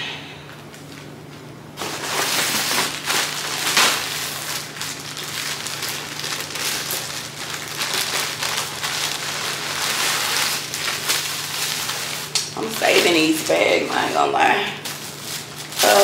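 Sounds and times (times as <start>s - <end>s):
plastic bag crinkling: 0.7s - 16.0s.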